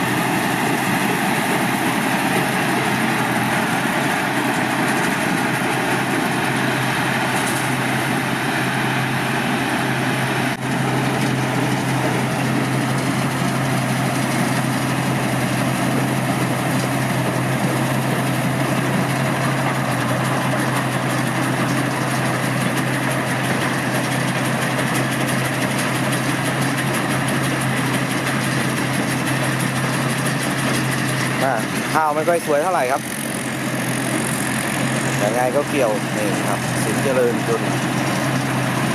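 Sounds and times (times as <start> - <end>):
combine harvester running: 0.0 - 38.9
diesel engine humming: 0.0 - 38.9.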